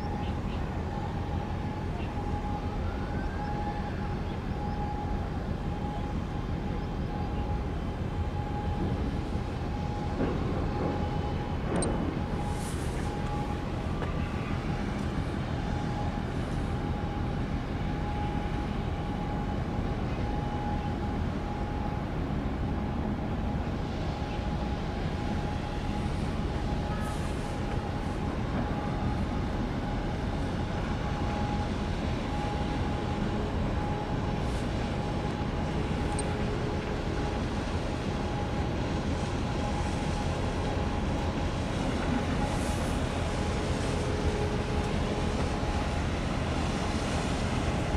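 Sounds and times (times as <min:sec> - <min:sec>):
ship machinery rumble: 0:00.0 - 0:47.9.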